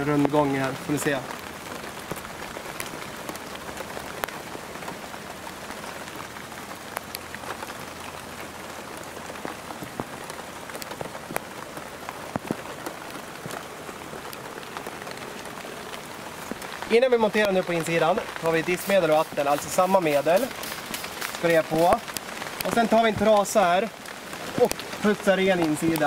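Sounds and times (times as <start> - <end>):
raindrops tapping close by: 0.0 - 26.0
steady rain falling: 0.0 - 26.0.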